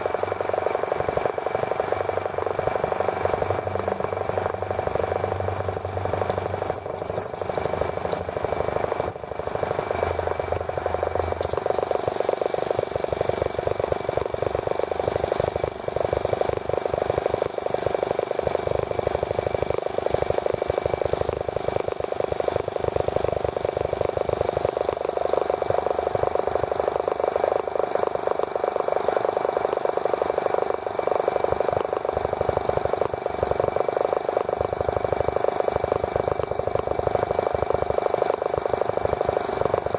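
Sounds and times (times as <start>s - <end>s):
small model engine buzzing: 0.0s - 39.9s.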